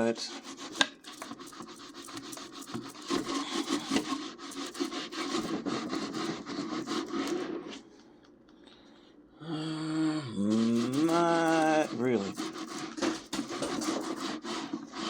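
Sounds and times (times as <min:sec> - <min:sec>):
hand rubbing oven walls: 0:00.0 - 0:07.9, 0:10.5 - 0:15.0.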